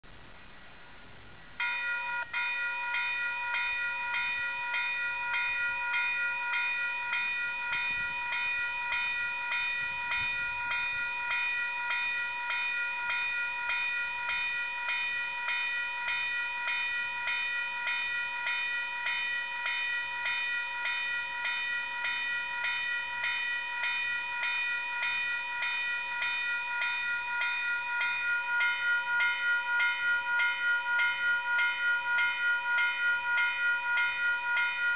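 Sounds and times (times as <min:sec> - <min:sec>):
level crossing warning bells: 0:01.6 - 0:34.9.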